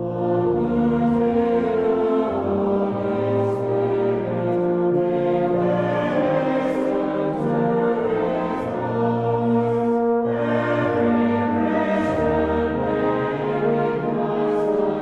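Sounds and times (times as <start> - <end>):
brass band playing a hymn: 0.0 - 15.0.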